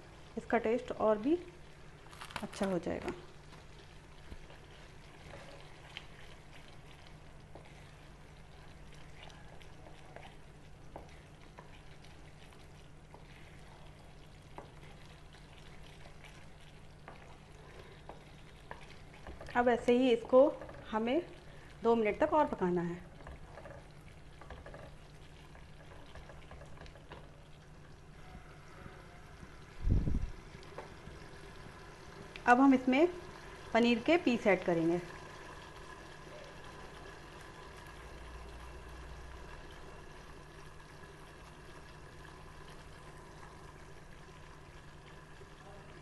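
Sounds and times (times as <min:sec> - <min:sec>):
faint steady hum: 0:00.0 - 0:46.0
gravy bubbling: 0:00.0 - 0:46.0.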